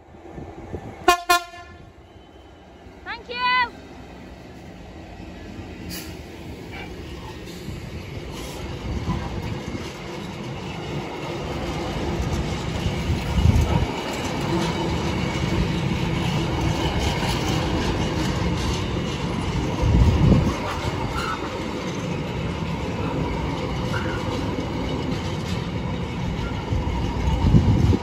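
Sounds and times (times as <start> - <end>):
train wheels clattering on rails: 4.6 - 28.0.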